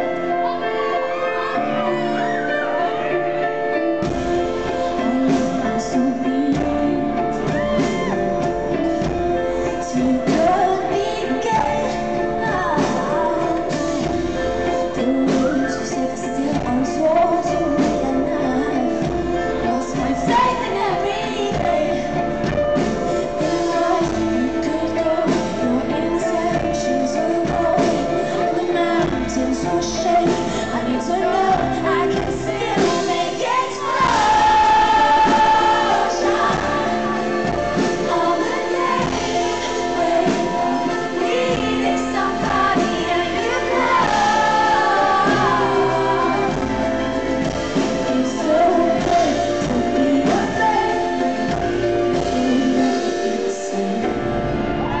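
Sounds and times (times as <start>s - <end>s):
woman singing: 0.0s - 54.4s
live band chords: 0.0s - 55.0s.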